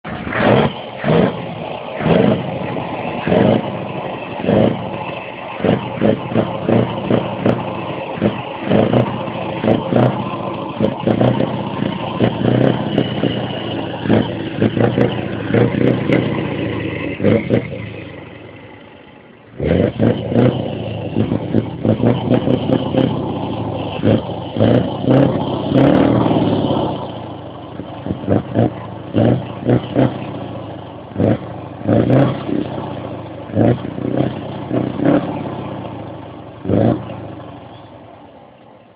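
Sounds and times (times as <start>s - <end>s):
diesel truck engine revving: 0.0s - 38.4s.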